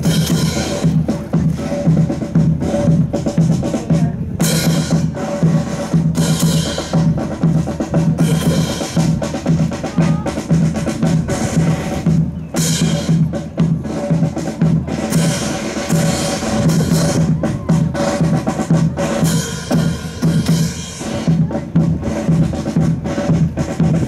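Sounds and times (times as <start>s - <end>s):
marching band drums: 0.0s - 24.0s.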